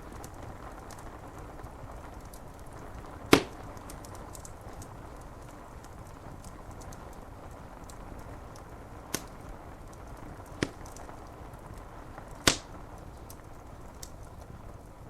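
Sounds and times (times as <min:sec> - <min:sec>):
rain on window glass: 0:00.0 - 0:15.0
sharp fire pops: 0:00.0 - 0:15.0
wood fire crackling: 0:00.0 - 0:15.0.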